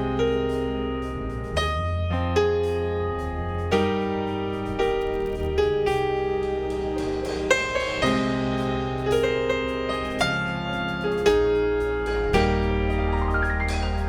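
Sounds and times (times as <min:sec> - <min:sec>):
keyboard chords: 0:00.0 - 0:14.0
sustained bass: 0:00.0 - 0:14.0.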